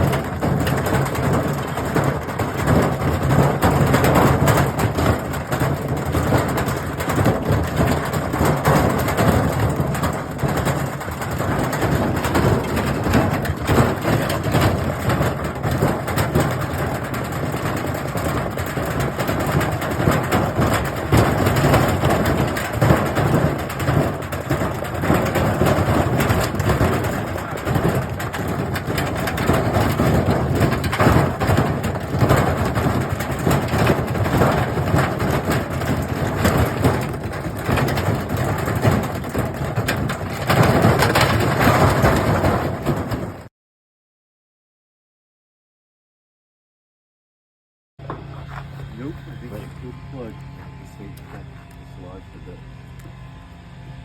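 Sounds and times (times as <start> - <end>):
washing machine clattering load: 0.0 - 43.5.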